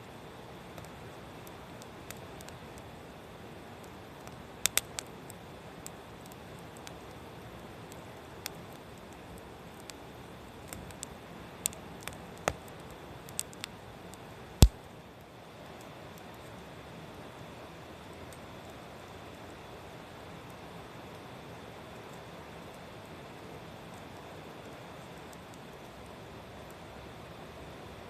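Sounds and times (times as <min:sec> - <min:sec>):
firewood crackling and popping: 0:00.0 - 0:27.2
fire soft hiss: 0:00.0 - 0:28.0.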